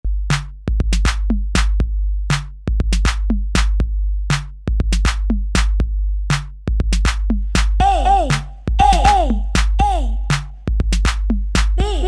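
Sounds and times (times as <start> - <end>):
drum machine beat: 0.0 - 12.0.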